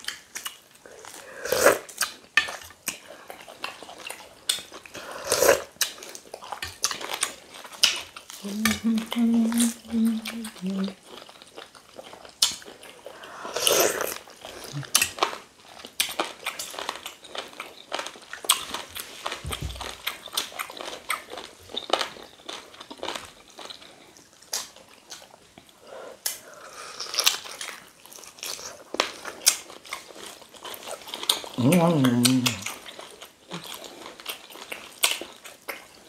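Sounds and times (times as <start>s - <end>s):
biting and chewing food: 0.0s - 36.0s.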